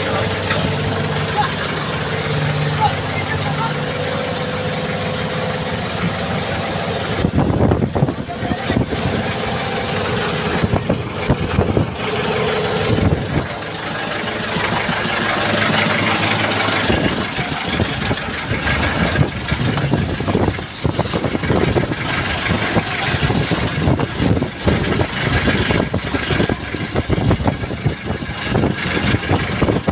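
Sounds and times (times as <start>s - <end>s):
boat engine humming: 0.0s - 29.9s
wind buffeting microphone: 4.4s - 29.9s.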